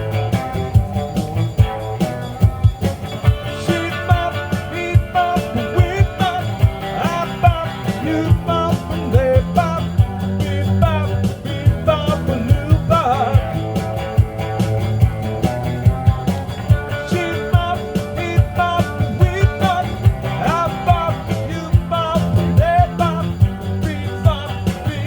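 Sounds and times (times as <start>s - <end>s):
live pop-rock song: 0.0s - 25.0s.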